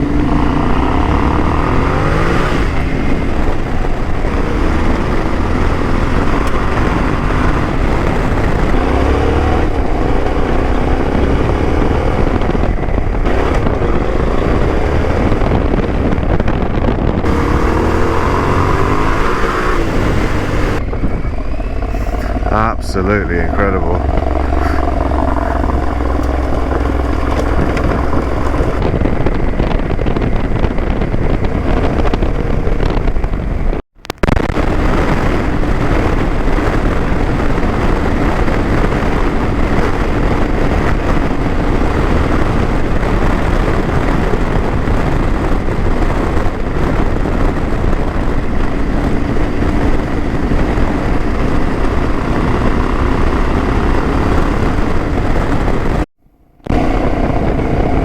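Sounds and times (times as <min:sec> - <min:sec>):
motorcycle engine and exhaust: 0:00.0 - 0:58.0
wind on microphone: 0:00.0 - 0:58.0.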